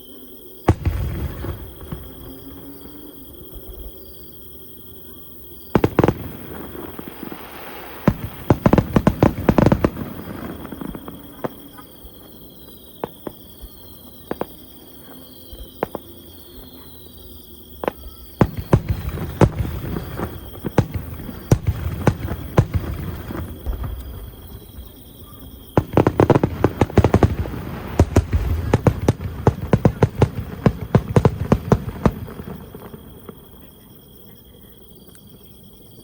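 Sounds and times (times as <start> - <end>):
fireworks bangs and crackles: 0.6 - 35.4.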